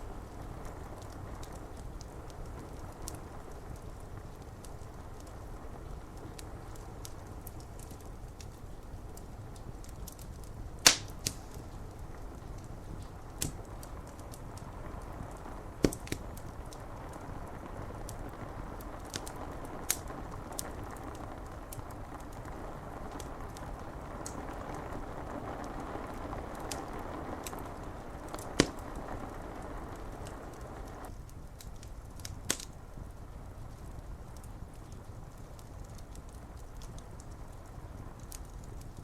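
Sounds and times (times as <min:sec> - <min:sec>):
rain on window glass: 0:00.0 - 0:39.0
wood fire crackling and popping: 0:00.0 - 0:39.0.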